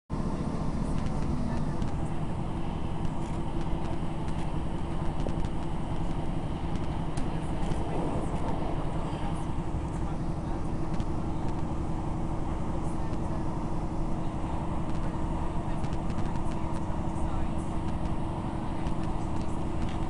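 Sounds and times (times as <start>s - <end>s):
train rumbling inside carriage: 0.1s - 20.0s.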